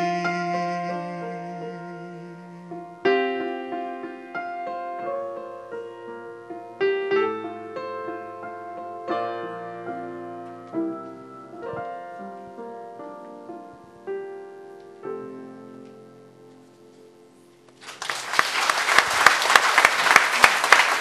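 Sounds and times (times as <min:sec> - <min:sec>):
piano chords: 0:00.0 - 0:17.9.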